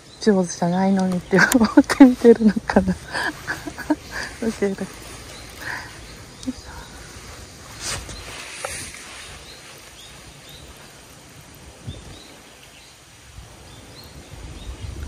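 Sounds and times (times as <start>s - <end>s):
steady hiss and low rumble: 0.0s - 15.0s.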